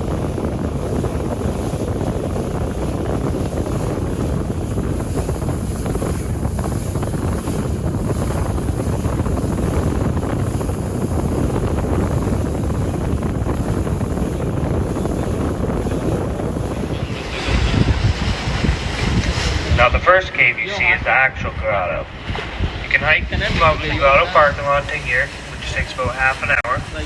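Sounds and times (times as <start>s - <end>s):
boat rumbling through water: 0.0s - 27.0s
wind rushing over microphone: 0.0s - 27.0s.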